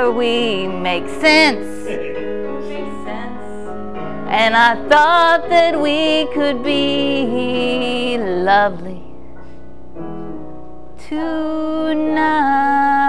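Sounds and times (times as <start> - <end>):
women singing slow song: 0.0 - 9.1, 11.0 - 13.0
piano accompaniment: 0.0 - 13.0.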